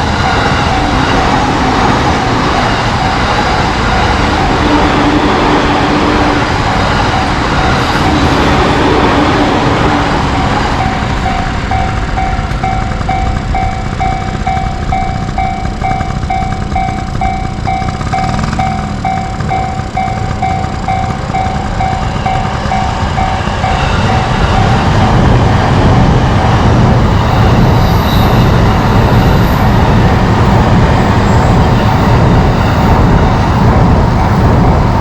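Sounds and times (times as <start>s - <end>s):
railroad crossing alarm ringing: 0.0s - 35.0s.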